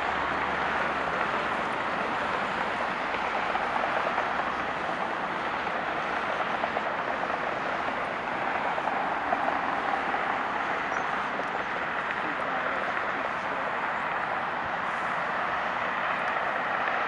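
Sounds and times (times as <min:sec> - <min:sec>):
jet airliner engines: 0:00.0 - 0:17.0.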